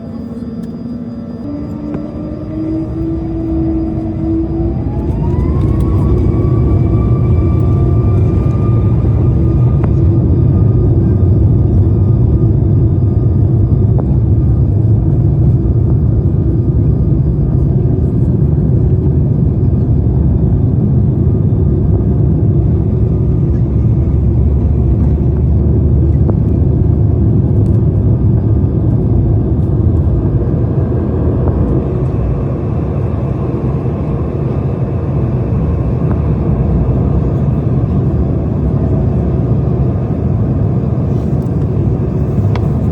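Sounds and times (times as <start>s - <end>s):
vehicle interior rumble: 0.0s - 42.9s.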